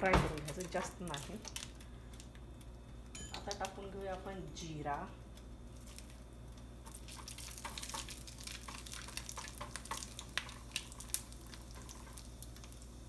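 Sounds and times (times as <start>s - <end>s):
seeds crackling in hot oil: 0.4s - 13.0s.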